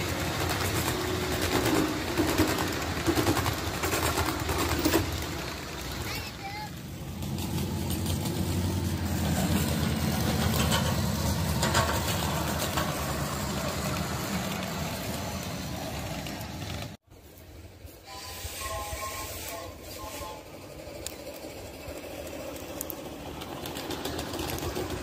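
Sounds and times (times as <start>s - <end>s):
miniature train rumbling on rails: 0.0s - 25.0s.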